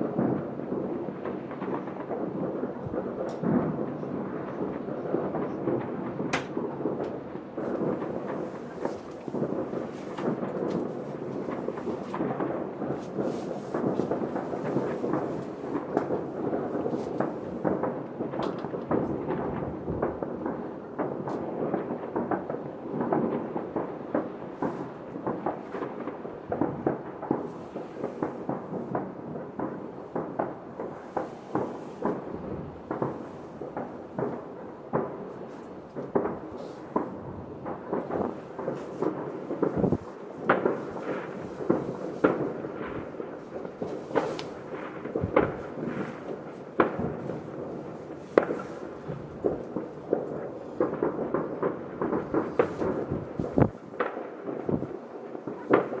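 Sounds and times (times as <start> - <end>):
distant fireworks rumble: 0.0 - 56.0
firework pops and crackles: 0.0 - 56.0.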